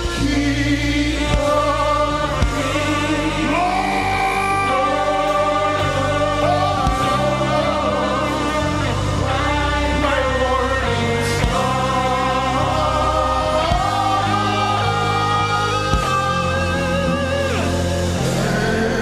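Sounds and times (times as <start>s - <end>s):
band with steady bass: 0.0s - 19.0s
voices singing together: 0.0s - 19.0s.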